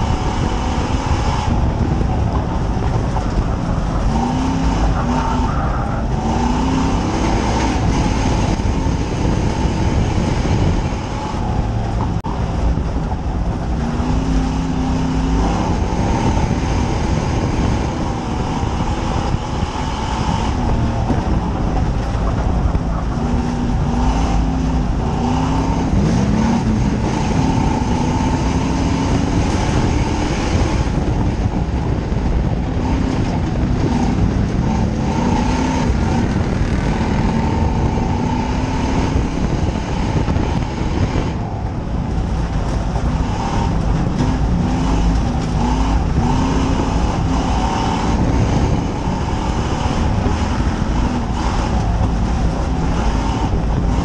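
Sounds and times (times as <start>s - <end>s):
race car engine running hard: 0.0s - 54.0s
road and wind noise: 0.0s - 54.0s.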